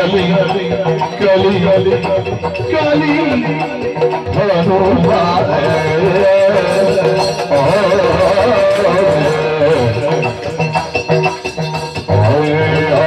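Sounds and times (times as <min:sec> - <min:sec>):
person singing wavering vocal: 0:00.0 - 0:11.1, 0:12.0 - 0:13.0
drum strokes: 0:00.0 - 0:13.0.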